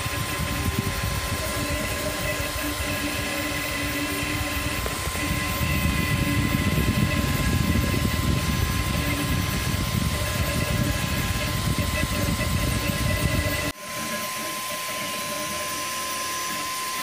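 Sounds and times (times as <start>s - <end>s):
stepper motors whining: 0.0s - 17.0s.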